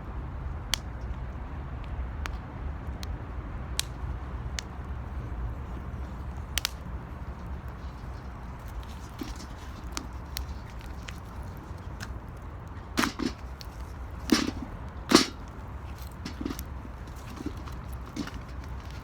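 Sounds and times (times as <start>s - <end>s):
fire low rumble: 2.2s - 19.0s
wood fire crackling and popping: 3.8s - 19.0s.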